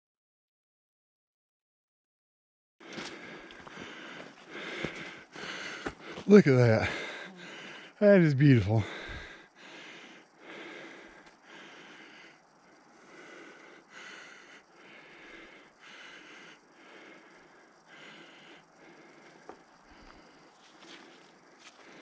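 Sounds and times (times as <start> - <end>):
man breathing heavily: 2.8 - 22.0.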